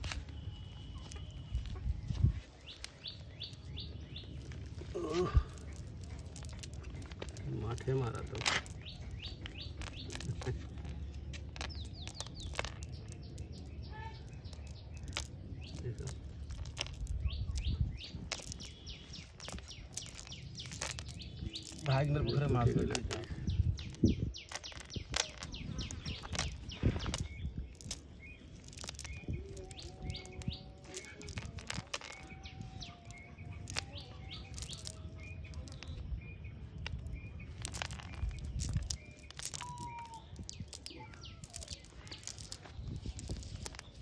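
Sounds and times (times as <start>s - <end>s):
birds chirping faintly: 0.0s - 44.0s
net clicking and rustling: 2.6s - 36.0s, 36.8s - 44.0s.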